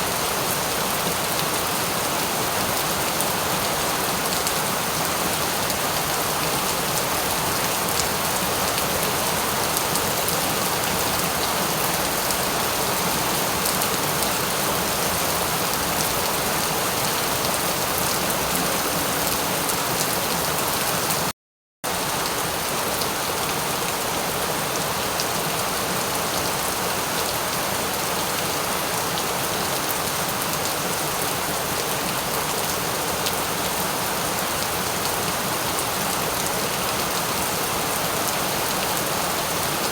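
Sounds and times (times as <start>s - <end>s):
steady rain: 0.0s - 21.3s, 21.9s - 39.9s.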